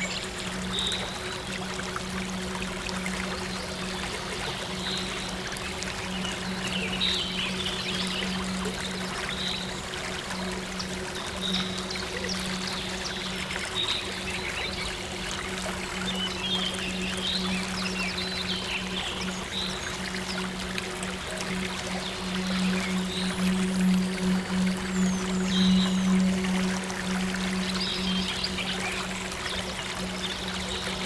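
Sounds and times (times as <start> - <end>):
low synth drone: 0.0 - 31.0
water flowing and trickling: 0.0 - 31.0.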